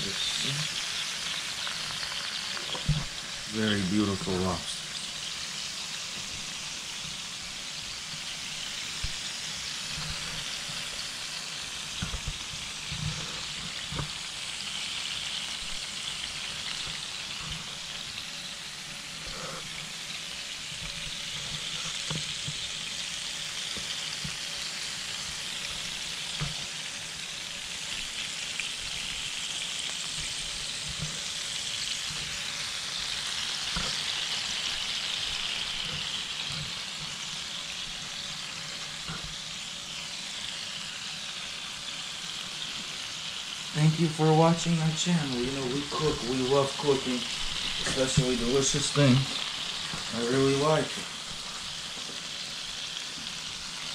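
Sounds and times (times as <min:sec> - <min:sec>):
lobsters sizzling on grill: 0:00.0 - 0:53.9.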